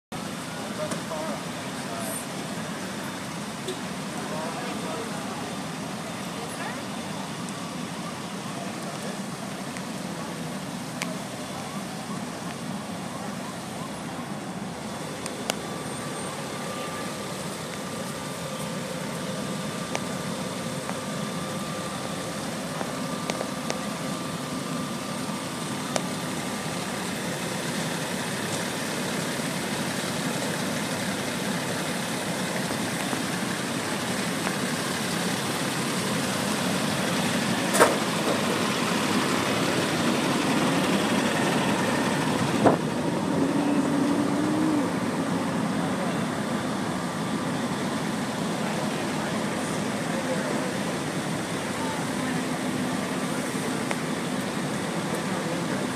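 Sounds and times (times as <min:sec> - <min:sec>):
thin steady whine: 0:00.1 - 0:55.9
truck engines idling: 0:00.1 - 0:55.9.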